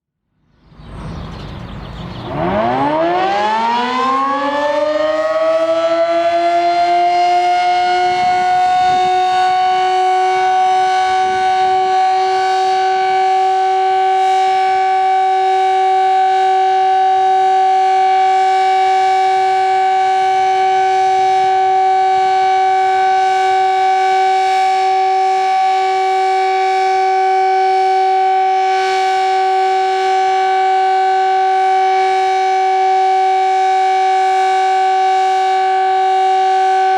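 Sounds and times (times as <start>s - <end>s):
civil defense siren two-tone wail: 0.7s - 36.9s.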